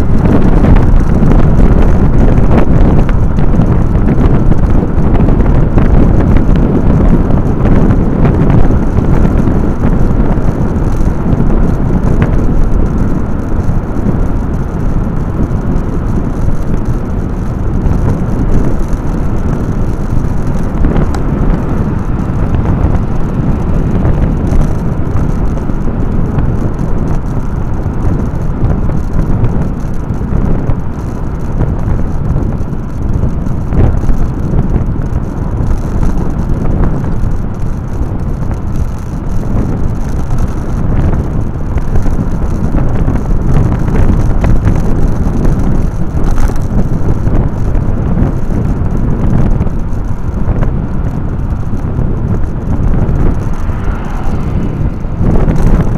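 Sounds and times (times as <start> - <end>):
road noise: 0.0 - 55.9
wind rushing: 0.0 - 55.9.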